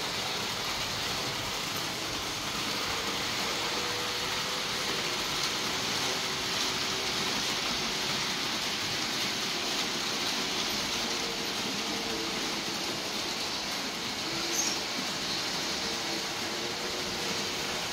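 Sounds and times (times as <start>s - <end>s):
model train wheels rolling on rails: 0.0s - 17.9s.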